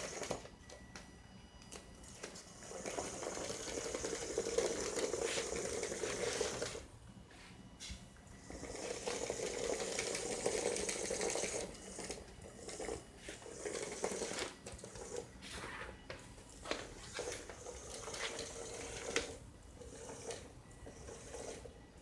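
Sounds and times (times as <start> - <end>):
small electric gear motors running: 0.0 - 0.8, 2.0 - 6.9, 8.3 - 15.6, 16.4 - 21.8.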